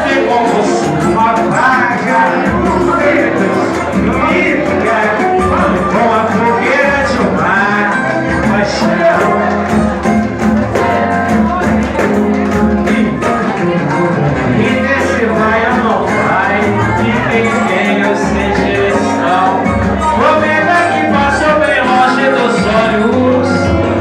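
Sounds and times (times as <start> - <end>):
person singing with band: 0.0 - 24.0.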